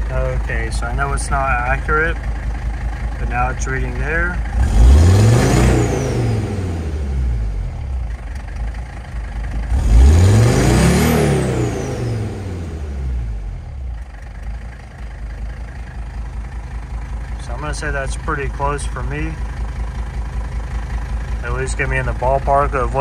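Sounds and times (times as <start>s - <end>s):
diesel engine idling and revving: 0.0s - 23.0s.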